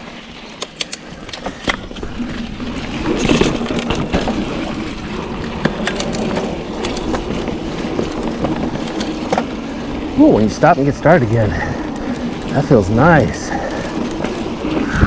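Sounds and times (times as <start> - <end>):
bike ticks and rattles: 0.0 - 15.0
bike tyres rolling on dirt: 0.0 - 15.0.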